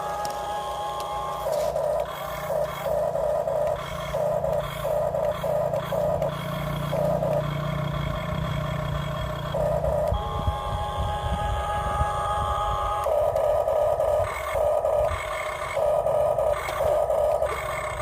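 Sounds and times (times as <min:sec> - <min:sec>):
small electric motors whining: 0:00.0 - 0:18.0
steady low hum: 0:00.0 - 0:18.0.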